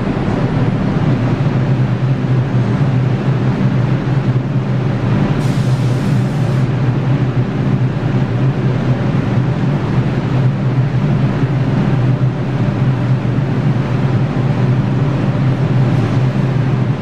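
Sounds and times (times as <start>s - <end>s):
subway train humming and rumbling: 0.0s - 17.0s.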